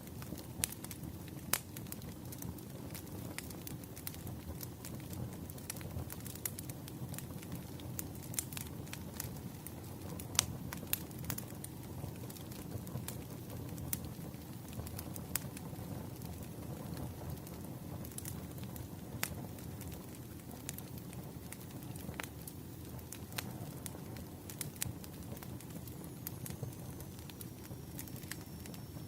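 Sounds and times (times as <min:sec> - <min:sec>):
fire crackles and pops: 0:00.0 - 0:29.0
wood fire rumble: 0:00.0 - 0:29.0.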